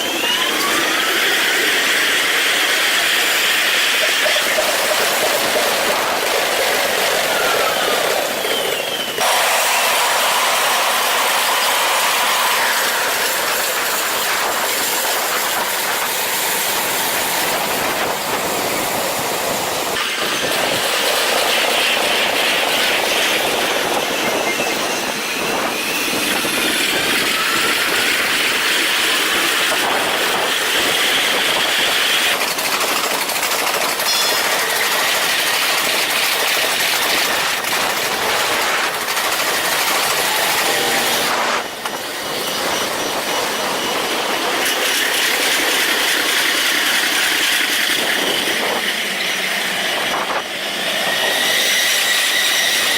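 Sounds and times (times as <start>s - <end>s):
train wheels on track: 0.0s - 52.9s.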